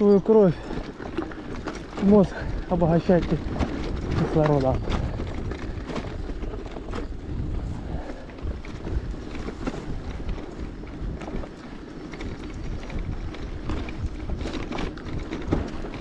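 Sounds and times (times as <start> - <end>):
bicycle tyres rumbling on dirt: 0.0 - 16.0
bike rattling and knocking: 0.0 - 16.0
wind on microphone: 0.0 - 16.0.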